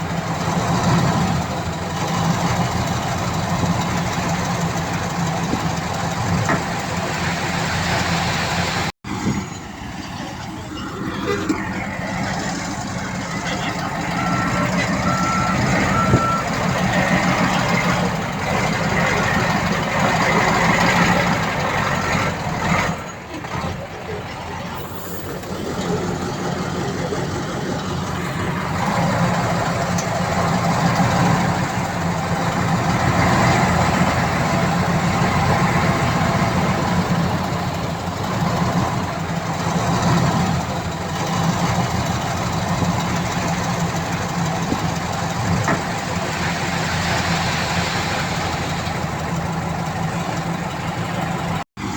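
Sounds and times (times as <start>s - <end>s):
diesel earthmoving machinery running: 0.0s - 51.9s.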